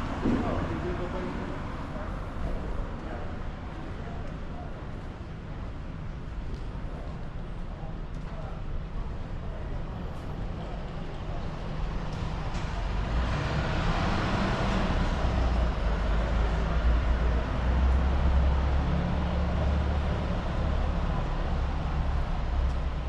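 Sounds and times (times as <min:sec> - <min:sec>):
tyre and road noise: 0:00.0 - 0:23.0
vehicle engine rumble: 0:00.0 - 0:23.0.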